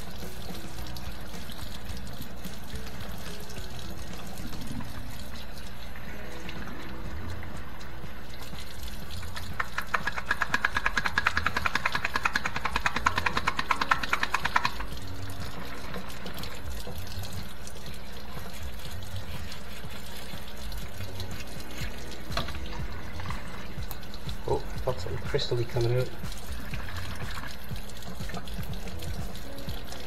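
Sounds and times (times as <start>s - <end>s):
water sloshing and gurgling: 0.0s - 30.0s.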